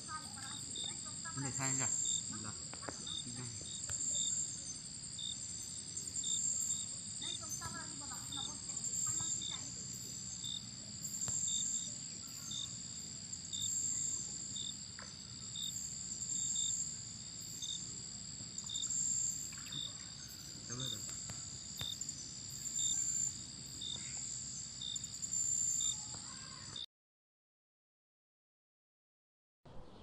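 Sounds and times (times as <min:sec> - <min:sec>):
crickets and insects trilling: 0:00.0 - 0:26.8
shrill high insect chorus: 0:00.0 - 0:26.8
short insect chirp: 0:00.0 - 0:26.9.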